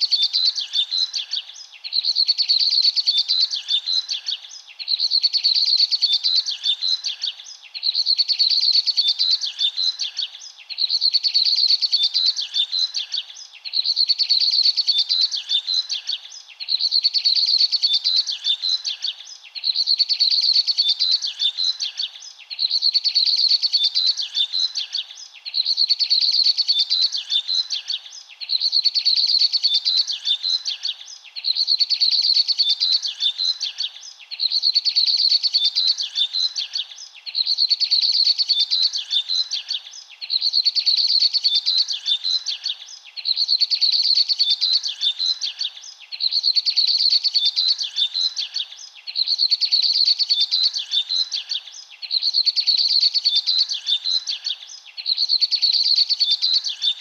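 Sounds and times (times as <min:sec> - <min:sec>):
birds chirping and twittering: 0:00.0 - 0:57.0.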